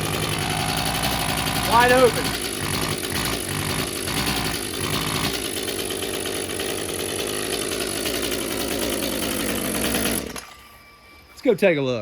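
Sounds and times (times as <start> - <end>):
muffled chainsaw engine: 0.0 - 10.5.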